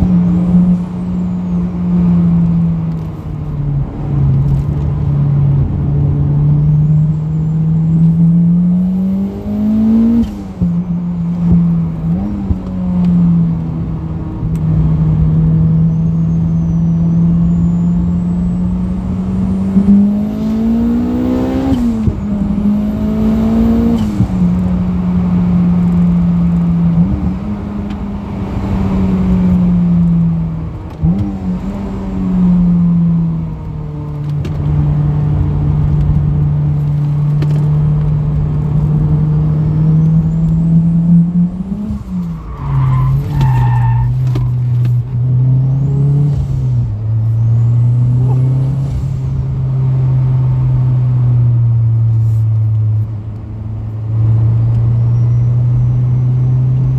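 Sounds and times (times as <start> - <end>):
car engine blipping on downshifts: 0.0 - 56.9.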